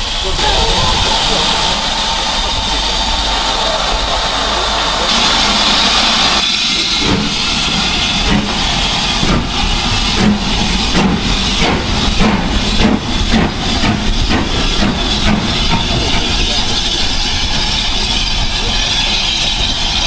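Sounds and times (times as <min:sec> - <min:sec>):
steam locomotive exhaust beats: 0:00.0 - 0:20.0
steam locomotive hissing steam: 0:00.0 - 0:20.0.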